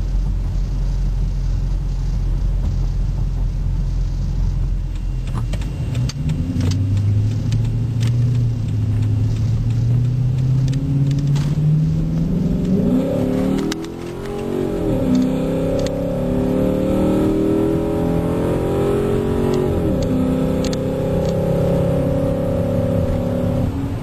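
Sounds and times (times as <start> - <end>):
car exhaust accelerating: 0.0 - 24.0.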